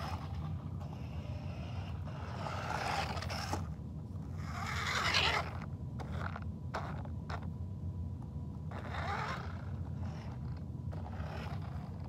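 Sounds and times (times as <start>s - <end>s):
toy car motor whirring: 0.0s - 3.7s, 4.4s - 7.4s, 8.7s - 12.0s.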